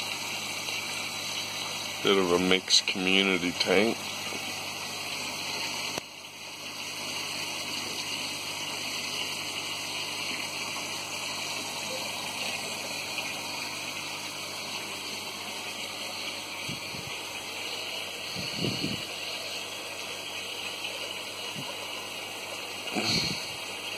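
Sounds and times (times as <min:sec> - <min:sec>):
aquarium filter water rushing: 0:00.0 - 0:23.9.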